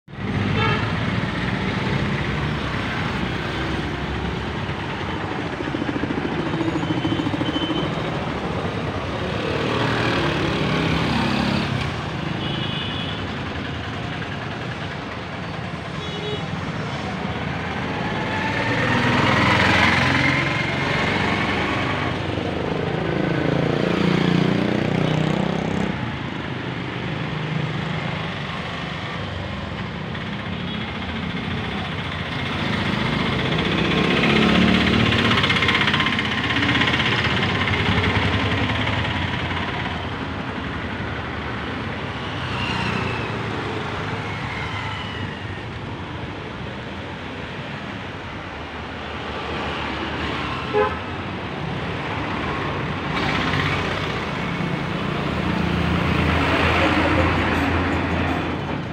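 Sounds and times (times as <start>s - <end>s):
vehicles passing: 0.1s - 58.9s.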